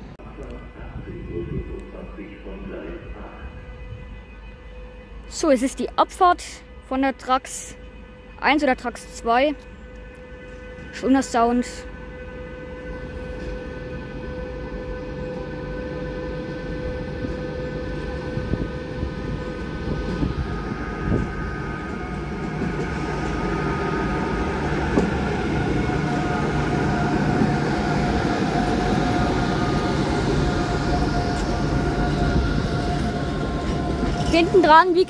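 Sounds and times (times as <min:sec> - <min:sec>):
locomotive traction whine: 0:00.0 - 0:35.0
rail rumble: 0:00.0 - 0:35.0.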